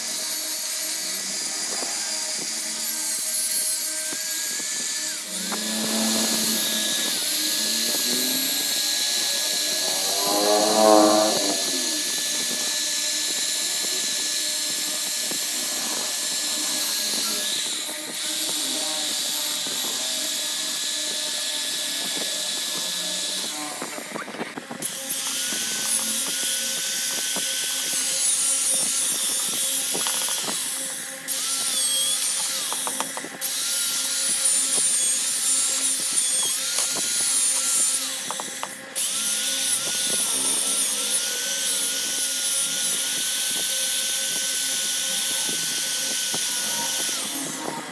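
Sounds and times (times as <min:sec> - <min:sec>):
electric drill with wire brush: 0:00.0 - 0:47.9.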